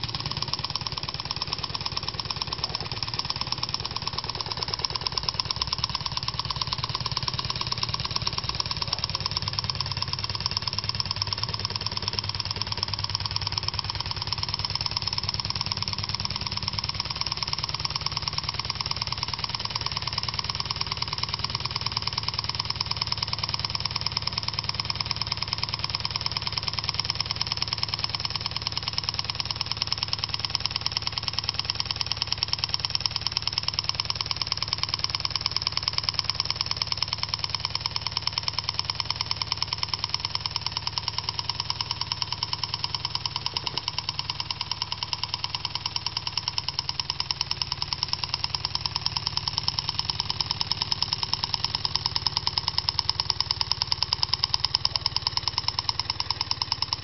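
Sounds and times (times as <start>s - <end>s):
engine mechanical clatter: 0.0s - 57.0s.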